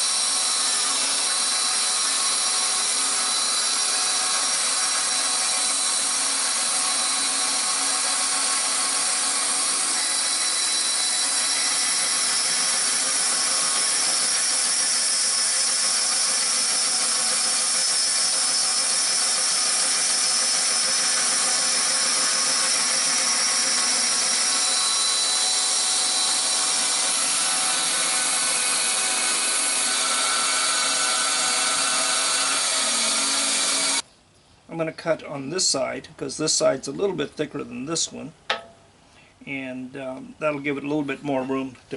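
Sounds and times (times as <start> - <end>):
bandsaw cutting plywood: 0.0 - 34.0.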